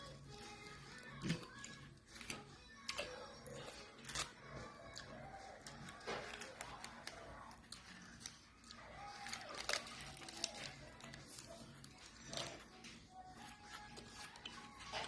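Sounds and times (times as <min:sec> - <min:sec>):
faint voice: 0:00.0 - 0:15.0.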